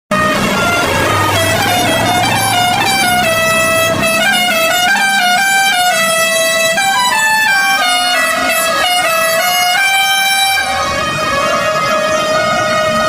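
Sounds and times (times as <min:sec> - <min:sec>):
multi-tone air horn melody: 0:00.1 - 0:13.0.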